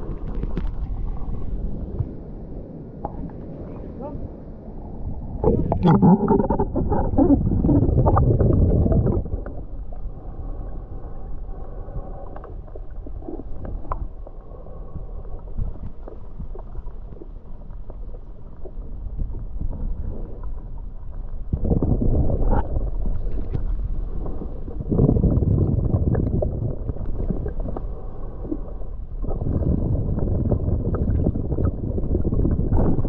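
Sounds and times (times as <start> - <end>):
faint underwater ticks and gurgles: 0.0 - 33.0
muffled underwater water rush: 0.0 - 33.0.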